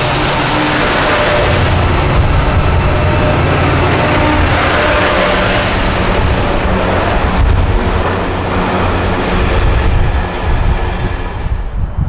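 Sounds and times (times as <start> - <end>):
deep rumble: 0.0 - 12.0
train wheels rushing on rail: 0.0 - 12.0.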